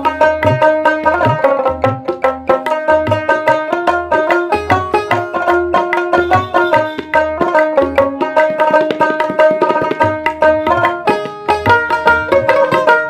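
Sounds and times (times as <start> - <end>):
plucked string melody: 0.0 - 13.0
quick hand drum rhythm: 0.0 - 13.0.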